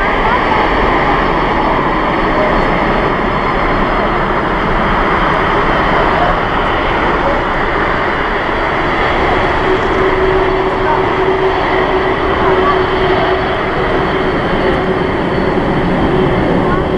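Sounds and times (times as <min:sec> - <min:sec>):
jet engines running: 0:00.0 - 0:16.9.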